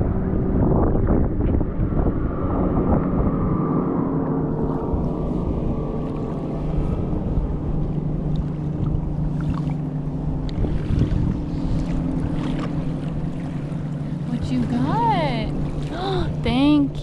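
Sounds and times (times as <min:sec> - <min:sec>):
boat motor droning: 0:00.0 - 0:17.0
wind buffeting microphone: 0:00.0 - 0:17.0.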